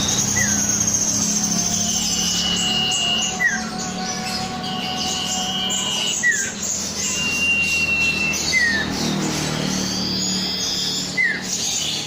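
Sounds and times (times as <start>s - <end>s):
bird singing high whistles: 0.0s - 12.0s.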